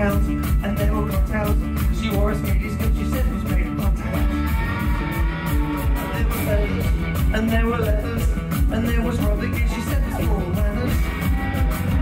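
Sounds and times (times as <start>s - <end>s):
person singing: 0.0s - 11.4s
bass guitar: 0.0s - 12.0s
drums keeping a steady beat: 0.0s - 12.0s
electric guitar: 0.0s - 12.0s.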